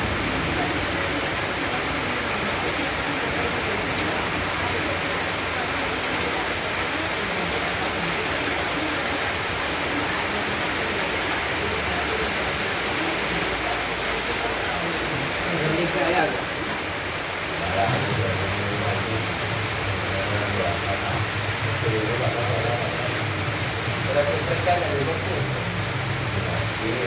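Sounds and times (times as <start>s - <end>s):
heavy rain falling: 0.0s - 27.0s
water running off: 0.0s - 27.0s.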